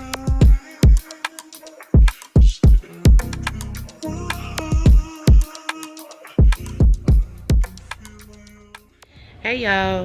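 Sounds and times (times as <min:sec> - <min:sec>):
electronic beat with heavy bass: 0:00.0 - 0:09.0.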